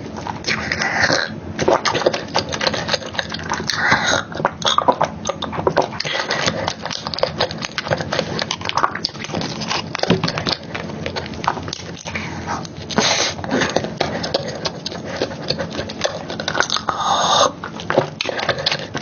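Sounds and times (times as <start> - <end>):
chewing and wet mouth smacking: 0.1 - 19.0.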